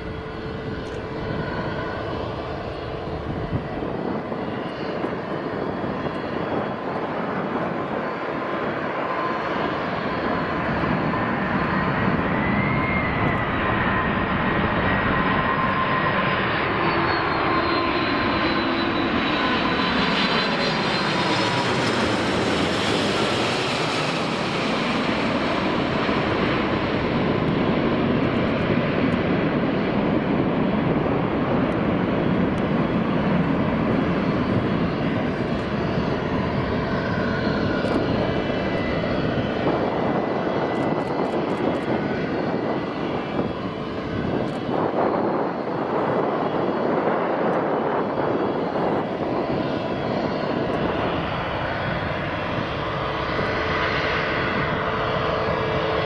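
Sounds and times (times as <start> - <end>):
jet airliner flying past: 0.0 - 56.0.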